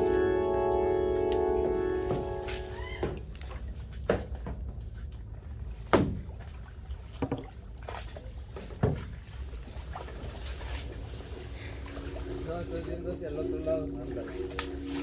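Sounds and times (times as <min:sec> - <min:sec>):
kayak paddle strokes splashing: 0:00.0 - 0:15.0
low steady rumble: 0:00.0 - 0:15.0.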